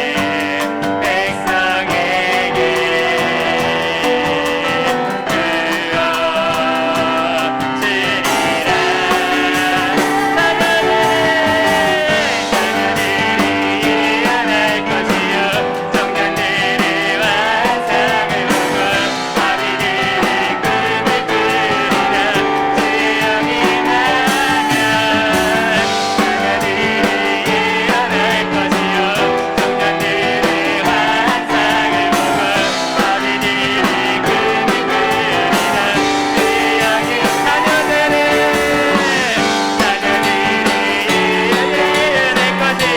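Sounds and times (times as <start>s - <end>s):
drums: 0.0s - 42.9s
people singing: 0.0s - 42.9s
piano: 0.0s - 42.9s.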